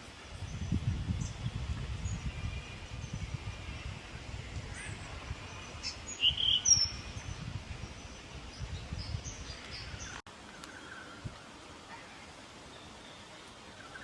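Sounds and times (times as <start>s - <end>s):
small birds chipping and twittering: 0.0s - 14.0s.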